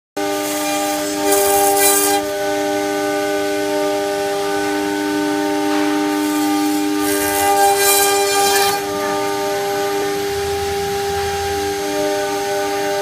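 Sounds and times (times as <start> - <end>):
hissing cutting noise: 0.2 - 13.0
router spindle whine: 0.2 - 13.0.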